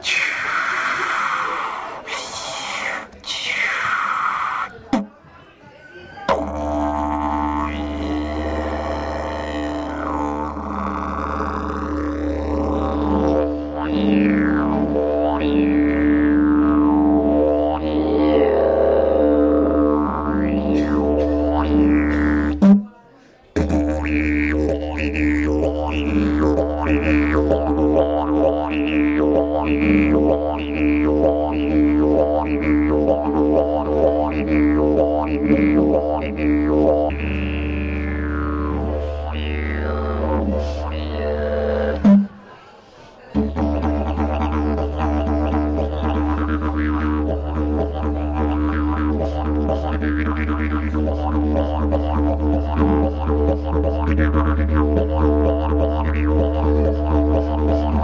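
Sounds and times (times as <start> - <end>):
didgeridoo drone: 6.3 - 22.8, 23.6 - 42.4, 43.4 - 58.0.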